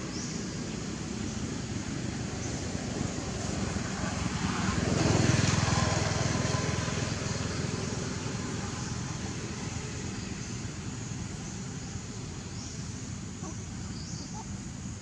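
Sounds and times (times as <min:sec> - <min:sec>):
steady background noise: 0:00.0 - 0:15.0
vehicle engine passing by: 0:01.8 - 0:15.0.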